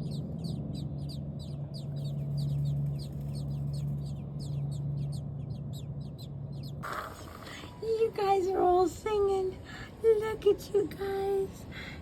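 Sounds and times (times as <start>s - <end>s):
nestling birds chirping: 0.0s - 12.0s
steady low hum: 0.0s - 12.0s.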